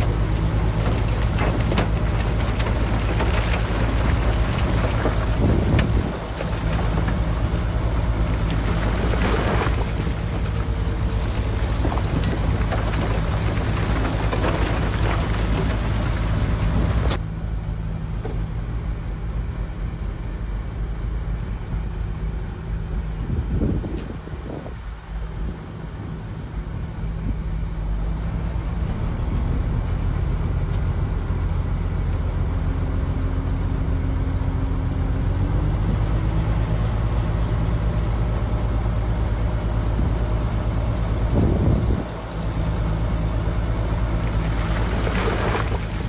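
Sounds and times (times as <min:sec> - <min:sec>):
bulldozer diesel engine running: 0:00.0 - 0:46.0.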